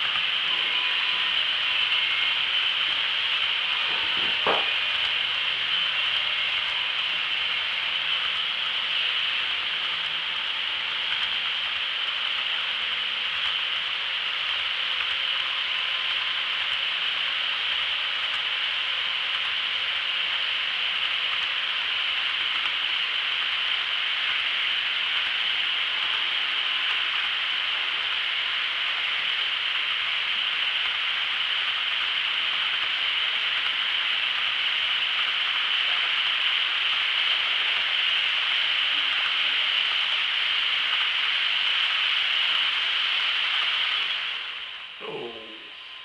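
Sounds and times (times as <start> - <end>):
model train wheels hissing on rails: 0.0 - 46.0.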